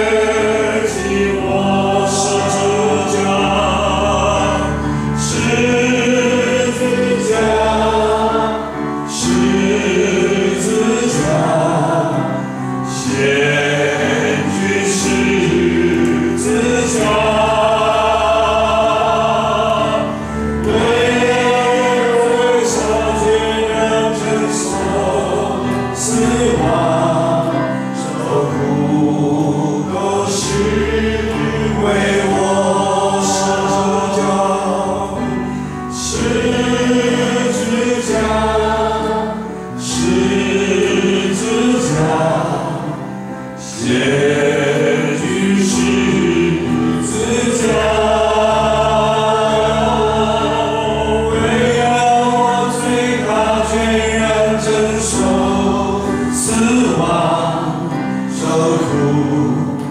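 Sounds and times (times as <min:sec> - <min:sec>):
instrumental accompaniment: 0:00.0 - 0:59.9
man and congregation singing: 0:00.0 - 0:59.9.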